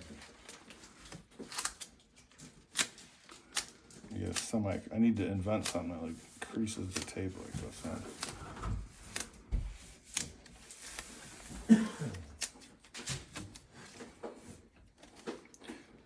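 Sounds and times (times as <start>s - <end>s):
masking tape rustling: 0.0s - 15.6s.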